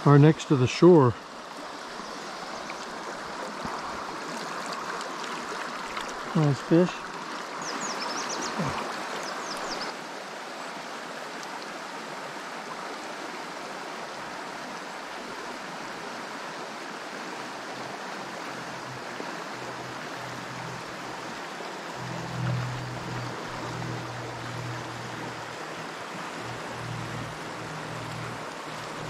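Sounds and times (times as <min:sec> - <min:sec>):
river water over rocks: 0:00.0 - 0:29.0.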